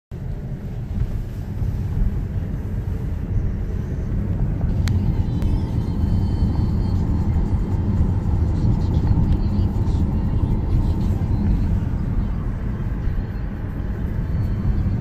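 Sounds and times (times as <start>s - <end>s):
car engine and tyres rumbling: 0.1s - 15.0s.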